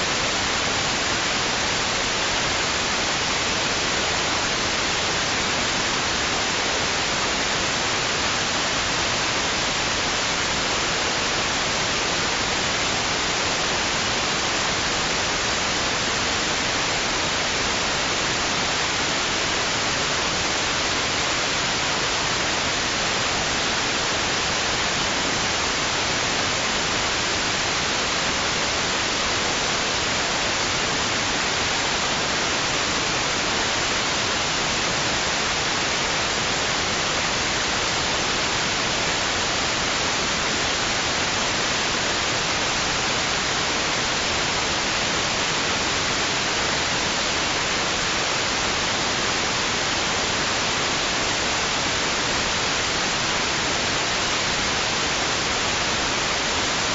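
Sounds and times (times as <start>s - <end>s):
white noise hiss: 0.0s - 56.9s.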